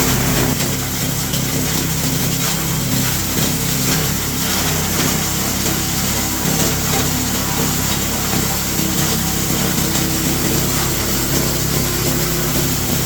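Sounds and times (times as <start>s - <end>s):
machine engine hum: 0.0s - 13.0s.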